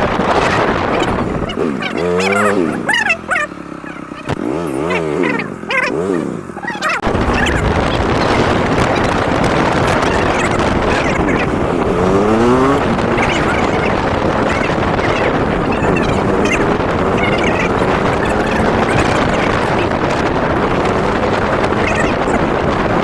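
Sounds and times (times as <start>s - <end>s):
motorcycle engine revving: 0.0s - 23.0s
wind rushing on microphone: 0.0s - 23.0s.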